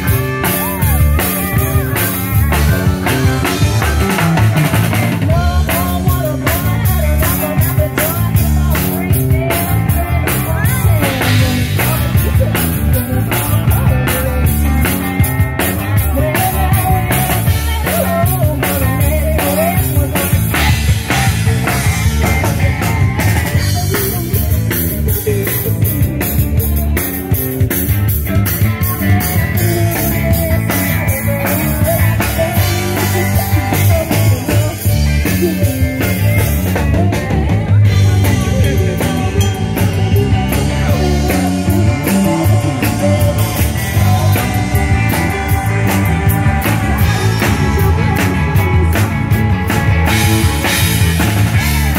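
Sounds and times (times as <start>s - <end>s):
drum kit beat: 0.0s - 51.9s
electric guitars: 0.0s - 51.9s
keyboard: 0.0s - 51.9s.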